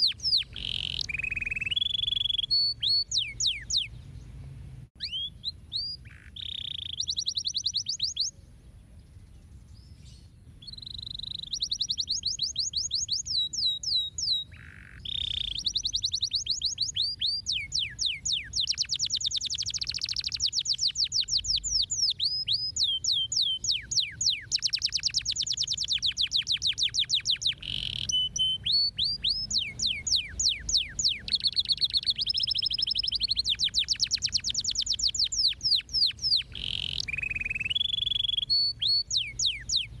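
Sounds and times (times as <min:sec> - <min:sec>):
canary singing trills: 0:00.0 - 0:04.4, 0:05.0 - 0:40.0.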